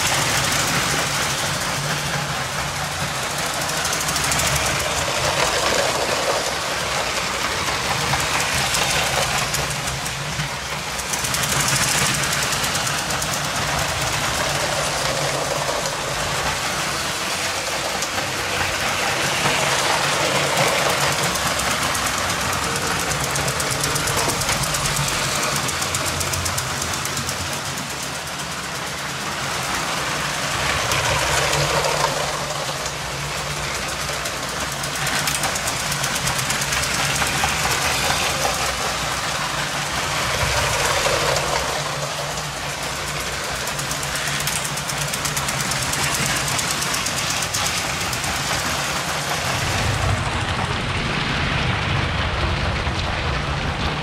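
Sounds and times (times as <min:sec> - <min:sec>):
toy train motor whirring: 0:00.0 - 0:49.9
rattle of toy train wheels: 0:00.0 - 0:51.0.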